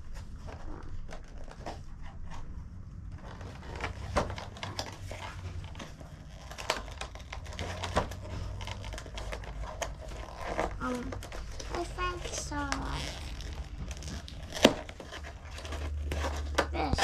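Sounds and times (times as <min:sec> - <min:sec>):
plastic packaging crinkling: 0:00.0 - 0:02.4, 0:03.1 - 0:17.0.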